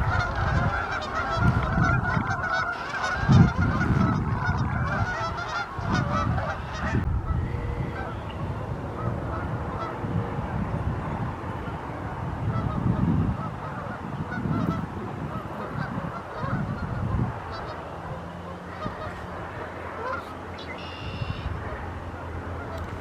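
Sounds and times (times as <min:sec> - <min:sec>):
cranes calling: 0:00.0 - 0:10.1, 0:11.6 - 0:23.0.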